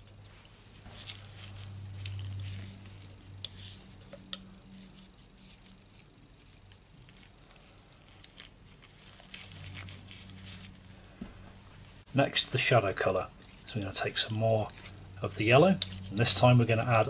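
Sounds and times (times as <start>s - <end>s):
low steady hum: 0.0s - 17.0s
palette knife scraping paint: 1.0s - 10.8s, 13.0s - 17.0s.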